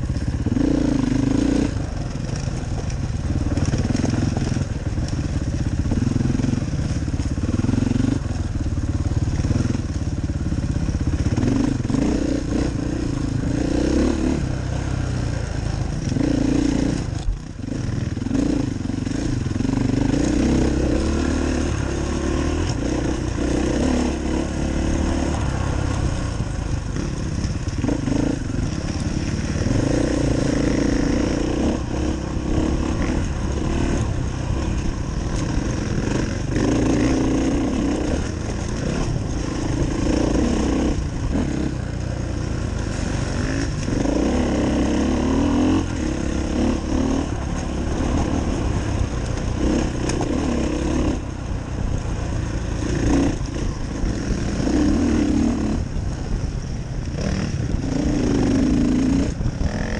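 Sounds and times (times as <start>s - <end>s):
dirt bike engine revving: 0.0s - 56.4s, 57.1s - 59.9s
wind noise: 11.3s - 59.9s.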